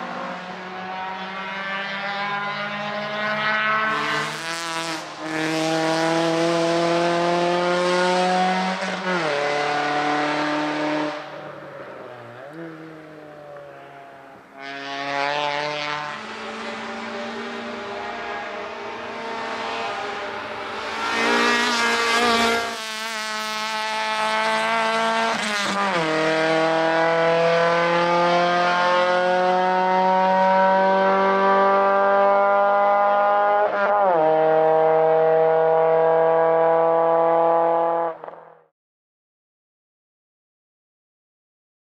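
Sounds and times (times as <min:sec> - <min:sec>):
race car engine accelerating past: 0:00.0 - 0:38.4.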